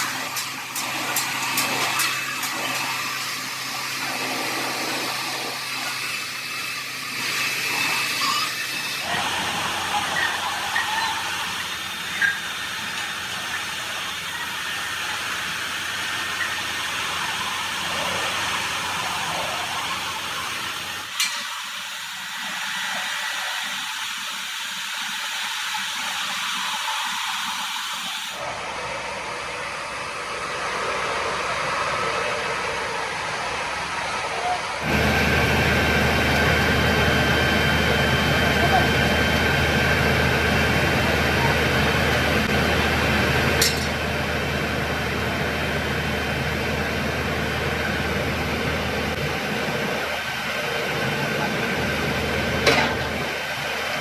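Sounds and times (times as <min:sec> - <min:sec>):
steady hissing workshop noise: 0:00.0 - 0:54.0.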